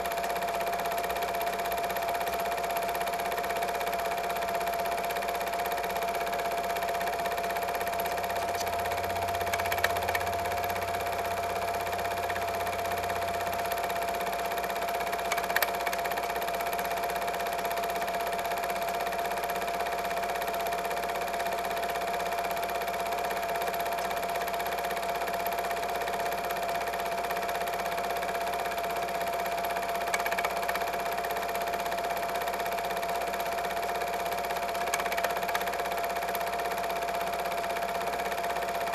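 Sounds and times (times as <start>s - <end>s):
film projector whine: 0.0s - 38.9s.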